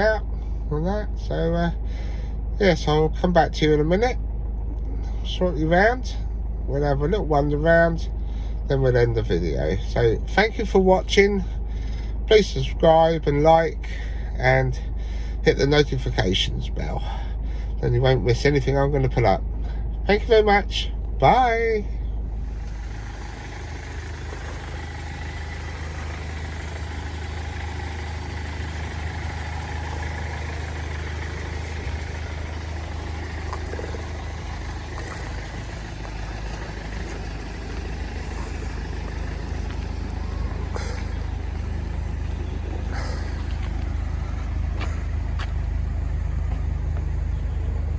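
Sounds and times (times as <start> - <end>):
vehicle engine rumble: 0.0 - 47.9.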